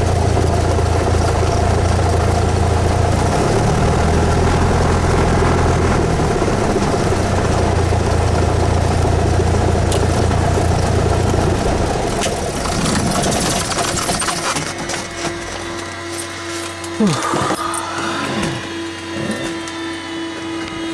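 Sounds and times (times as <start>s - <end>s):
airplane engine and propeller: 0.0s - 20.9s.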